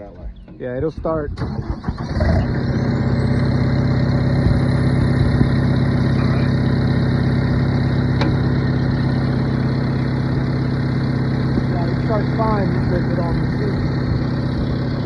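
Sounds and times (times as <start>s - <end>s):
stump grinder engine running: 0.0s - 15.0s.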